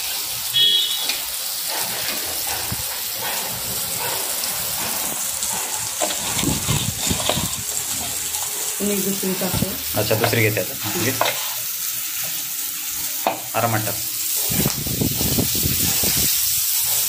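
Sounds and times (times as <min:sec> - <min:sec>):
metal spatula scraping griddle: 0:00.0 - 0:08.7, 0:10.0 - 0:12.4, 0:14.2 - 0:17.0
fish sizzling in hot oil: 0:00.0 - 0:17.0.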